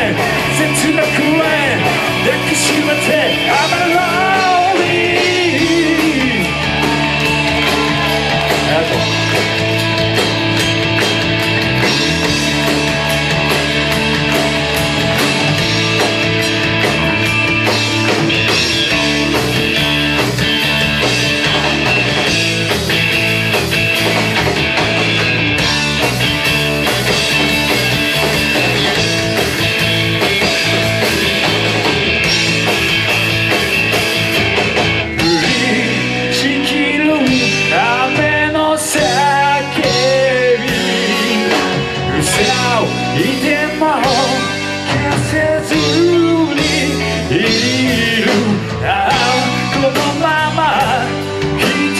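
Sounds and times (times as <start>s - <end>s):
rock band playing instrumental: 0.0s - 51.9s.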